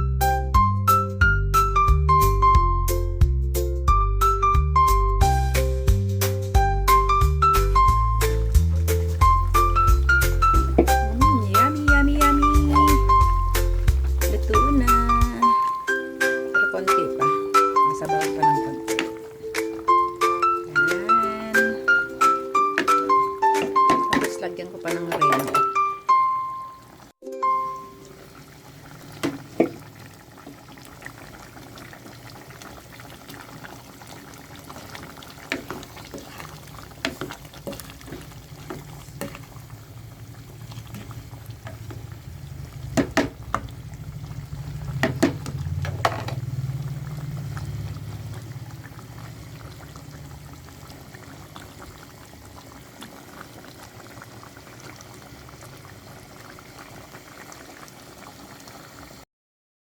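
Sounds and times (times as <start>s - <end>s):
stew bubbling in a pot: 6.5s - 59.2s.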